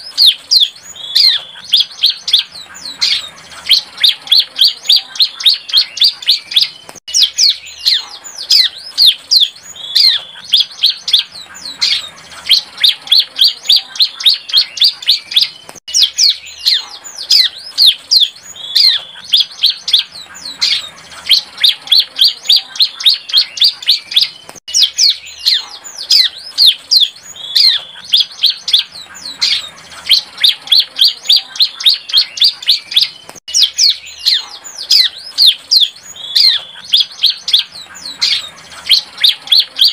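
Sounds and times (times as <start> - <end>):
bird singing sharp high chirps: 0.0 - 39.9.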